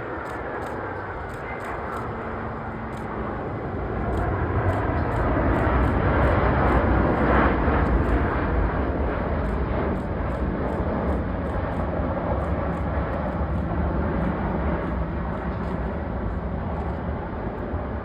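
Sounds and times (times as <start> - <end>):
airliner engines rumbling: 0.0 - 18.0.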